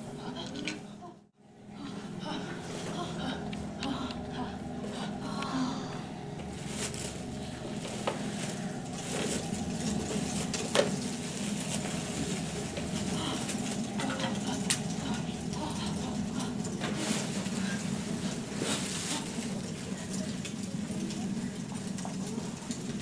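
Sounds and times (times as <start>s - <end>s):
steady room hum: 0.0s - 23.0s.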